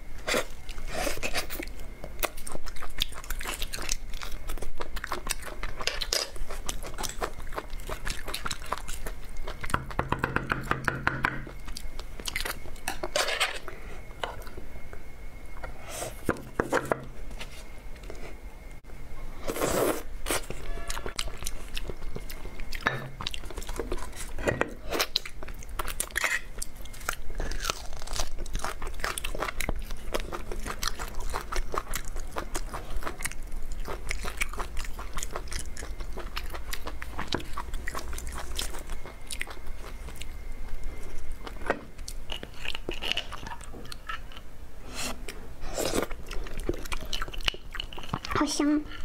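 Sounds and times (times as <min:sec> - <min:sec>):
person chewing and crunching bones: 0:00.3 - 0:15.1, 0:19.5 - 0:44.5, 0:45.2 - 0:49.0.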